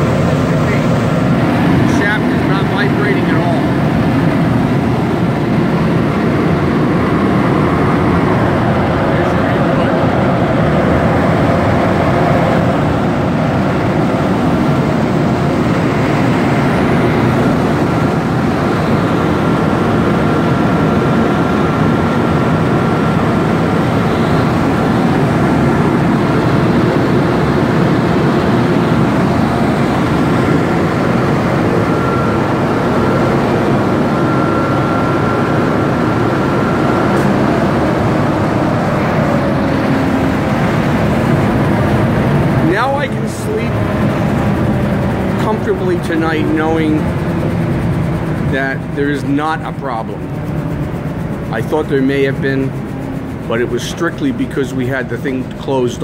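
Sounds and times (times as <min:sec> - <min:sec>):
organ blower air rushing: 0:00.0 - 0:56.0.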